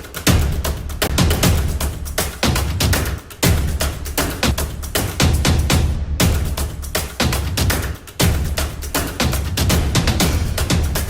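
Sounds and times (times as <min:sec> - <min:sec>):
fast percussive beat: 0:00.0 - 0:11.0.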